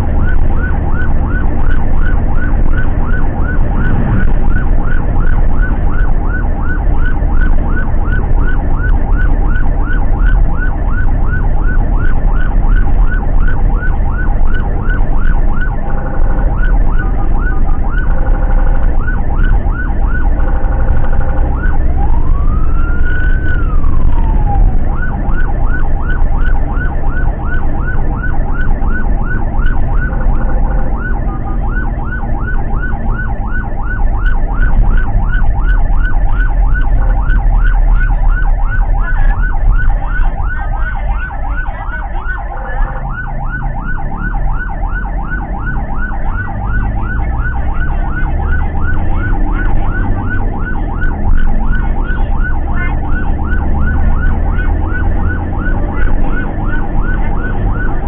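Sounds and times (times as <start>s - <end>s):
ambulance siren wailing and yelping: 0.0s - 58.0s.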